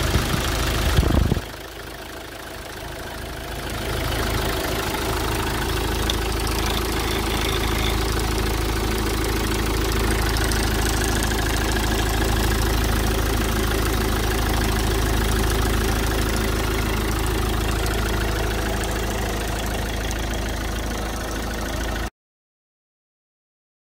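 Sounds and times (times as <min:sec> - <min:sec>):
diesel engine idling: 0:00.0 - 0:22.1.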